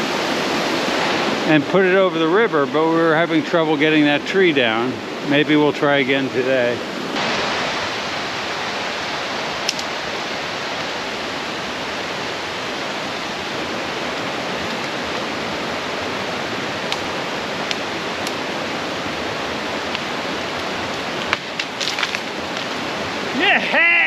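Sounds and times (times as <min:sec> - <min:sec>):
mountain brook rushing: 0:00.0 - 0:24.0.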